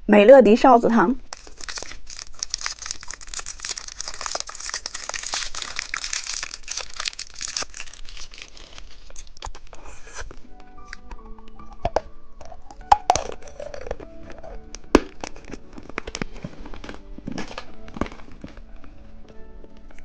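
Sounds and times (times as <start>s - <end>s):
plastic candy wrapper crinkling: 1.2s - 20.0s.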